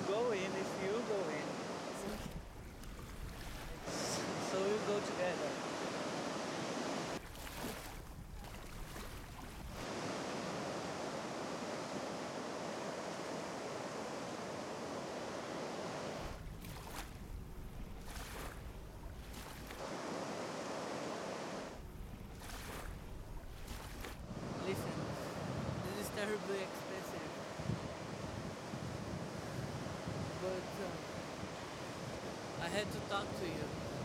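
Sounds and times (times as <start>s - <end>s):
waves breaking on shore: 0.0s - 34.0s
wind rumble on microphone: 0.1s - 5.4s, 6.1s - 12.1s, 12.7s - 20.4s, 21.6s - 34.0s.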